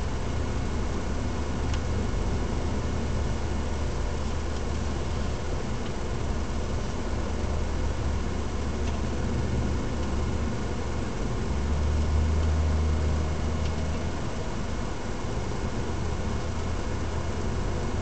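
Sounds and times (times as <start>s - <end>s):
low engine drone: 0.0s - 18.0s
road noise: 0.0s - 18.0s.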